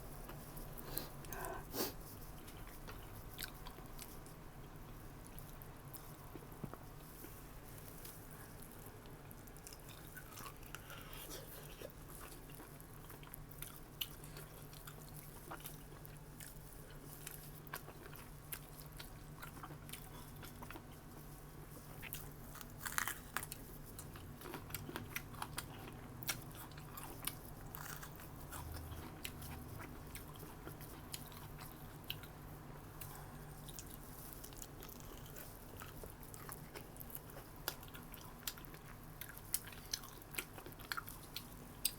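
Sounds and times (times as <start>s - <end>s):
person chewing food: 0.2s - 41.9s.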